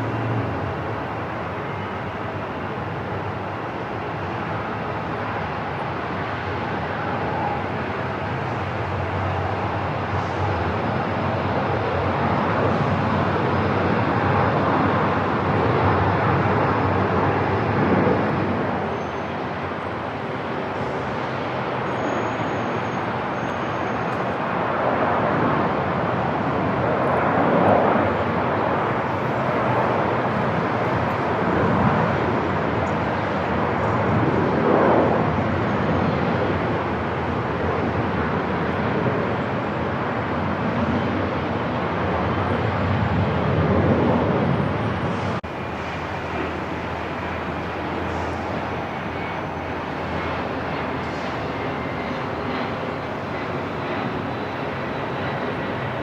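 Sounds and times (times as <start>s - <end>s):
airport ambience rumble: 0.0s - 56.0s.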